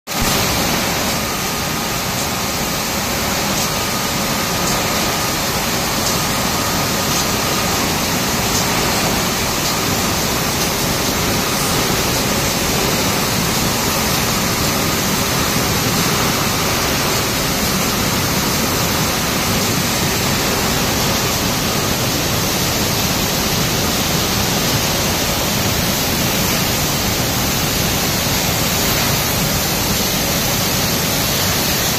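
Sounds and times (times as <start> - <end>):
gas burner flames: 0.1 - 31.9
glassworks machinery noise: 0.1 - 31.9.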